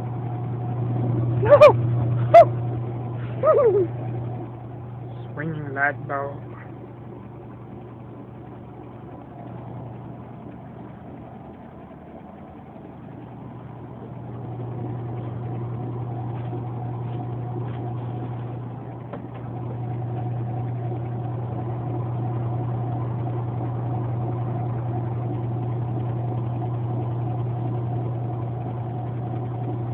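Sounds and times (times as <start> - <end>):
motor hum: 0.0 - 29.9.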